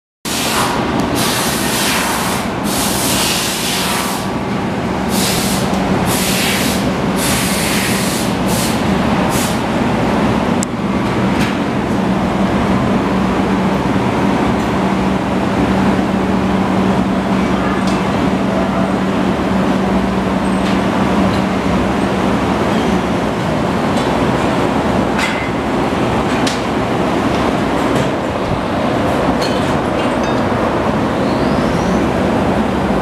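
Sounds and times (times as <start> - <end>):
steady hum: 0.3 - 33.0.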